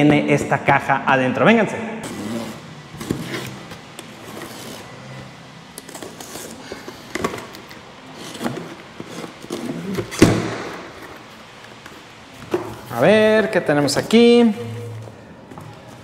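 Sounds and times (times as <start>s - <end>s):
tape and cardboard rustling: 2.0s - 16.0s.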